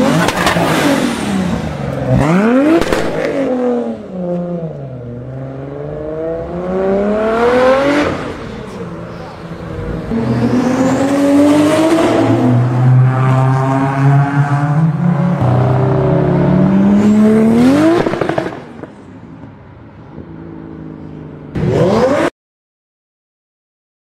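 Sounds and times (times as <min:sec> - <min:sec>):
car engine accelerating and revving: 0:00.0 - 0:18.9, 0:21.5 - 0:22.3.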